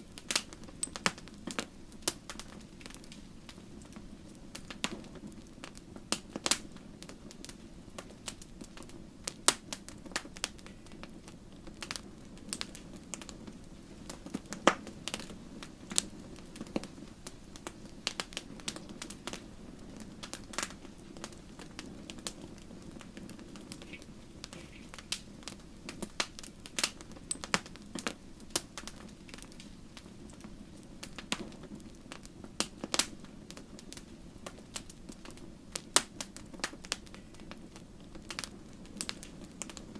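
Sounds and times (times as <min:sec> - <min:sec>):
low rush of flame: 0:00.0 - 0:39.9
wood fire crackling and popping: 0:00.0 - 0:39.9.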